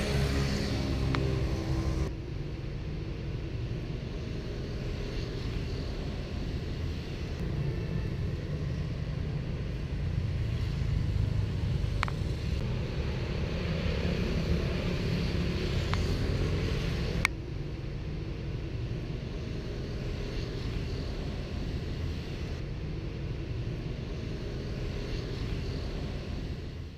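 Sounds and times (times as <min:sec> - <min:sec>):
low outdoor rumble: 0:00.0 - 0:26.9.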